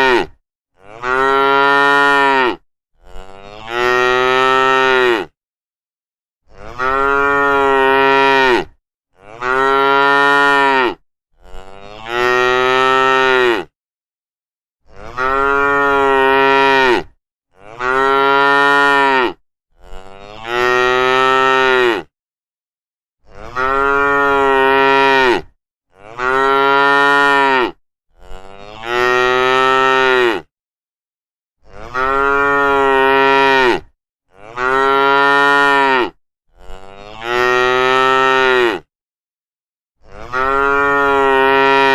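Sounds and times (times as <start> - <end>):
cow mooing: 0.0 - 5.4, 6.5 - 13.7, 14.9 - 22.1, 23.2 - 30.5, 31.6 - 38.9, 40.1 - 41.9.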